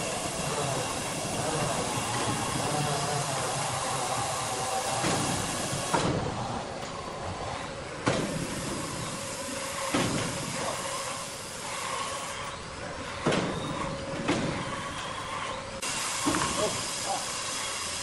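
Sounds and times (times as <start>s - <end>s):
sawmill machinery hissing: 0.0s - 18.0s.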